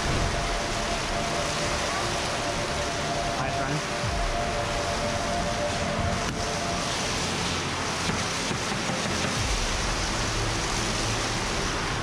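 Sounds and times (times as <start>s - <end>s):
rushing hiss: 0.0s - 12.0s.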